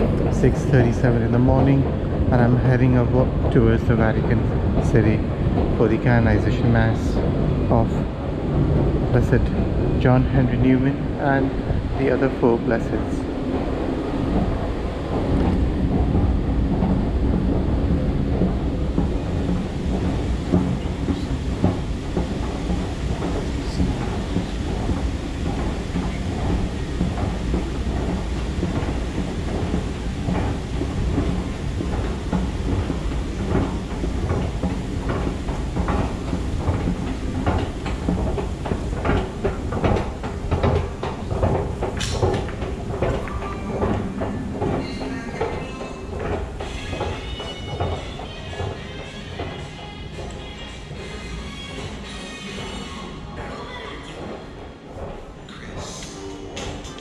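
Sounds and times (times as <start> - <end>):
escalator rumble and hum: 0.0 - 57.0
escalator steps clicking: 0.0 - 57.0.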